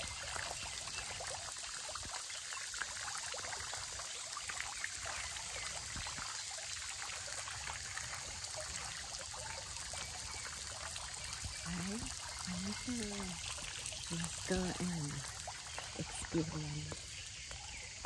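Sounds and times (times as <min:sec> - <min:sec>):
fountain water splashing: 0:00.0 - 0:18.0.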